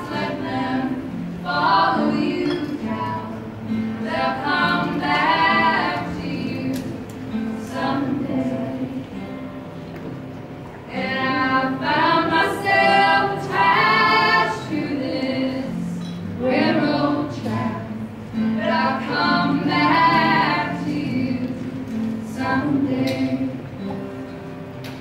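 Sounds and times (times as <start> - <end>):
women singing in harmony: 0.0 - 9.4, 10.9 - 24.1
strummed acoustic guitar: 0.0 - 25.0.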